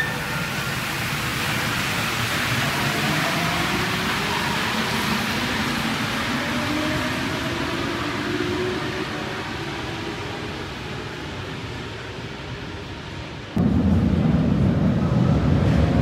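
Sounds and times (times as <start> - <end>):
underground train rumbling: 0.0 - 16.0.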